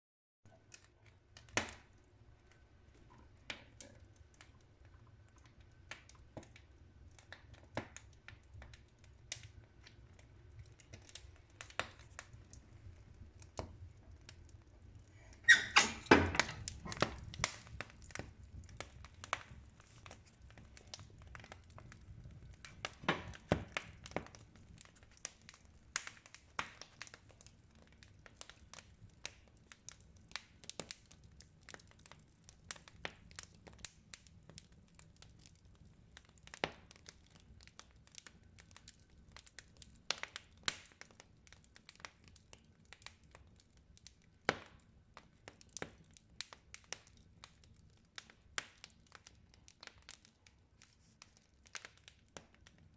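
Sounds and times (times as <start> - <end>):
wood fire crackling and popping: 0.5 - 52.9.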